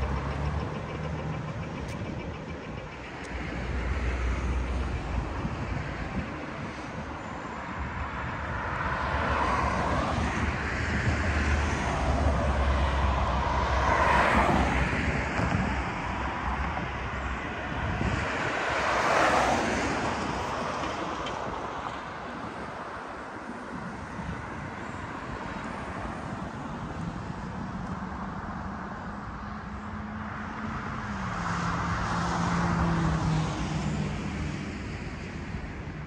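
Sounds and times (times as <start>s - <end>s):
low traffic rumble: 0.0s - 36.0s
vehicles passing by: 0.0s - 36.0s.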